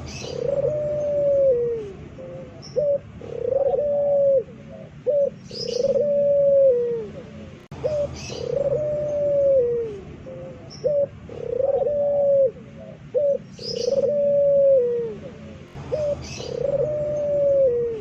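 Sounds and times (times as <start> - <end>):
dove howling coos: 0.0 - 18.0.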